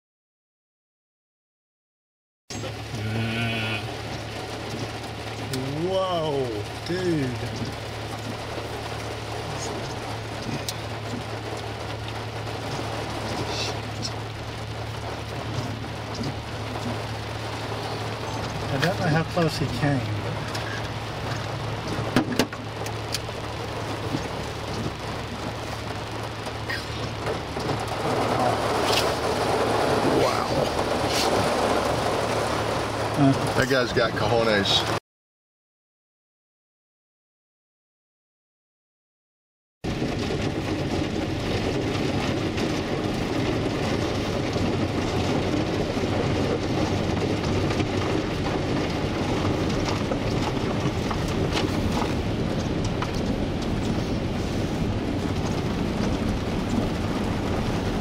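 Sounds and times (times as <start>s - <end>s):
engine and tyre hum: 2.5s - 35.0s, 39.9s - 58.0s
heavy rain drumming on vehicle roof: 2.5s - 35.0s, 39.8s - 58.0s
truck driving through floodwater: 3.8s - 35.0s, 39.9s - 58.0s.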